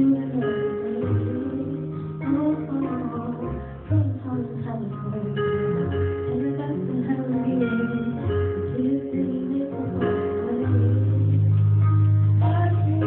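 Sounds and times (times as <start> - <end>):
live guitar music: 0.0 - 13.0.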